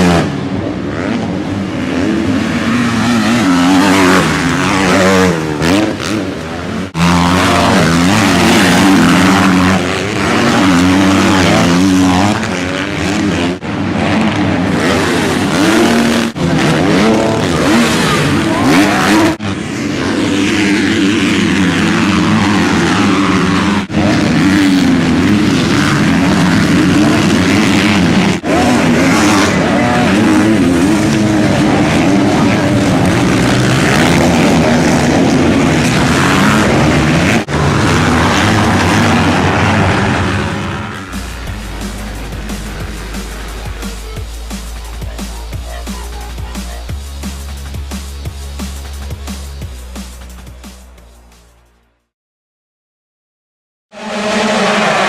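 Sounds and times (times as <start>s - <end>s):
motocross bike engines revving: 0.0s - 51.7s, 54.0s - 55.0s.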